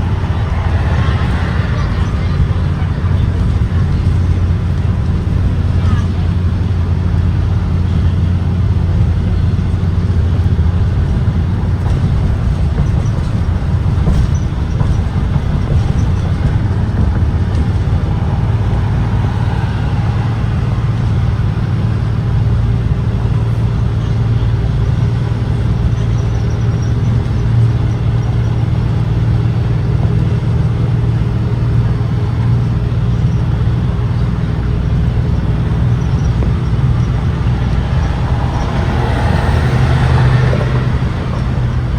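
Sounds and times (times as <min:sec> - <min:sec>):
bus engine hum: 0:00.0 - 0:41.9
road noise: 0:00.0 - 0:41.9.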